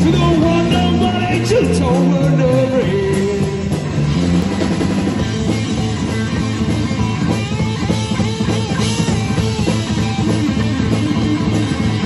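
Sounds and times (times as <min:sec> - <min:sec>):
bass guitar: 0:00.0 - 0:12.0
drum kit: 0:00.0 - 0:12.0
electric guitar: 0:00.0 - 0:12.0.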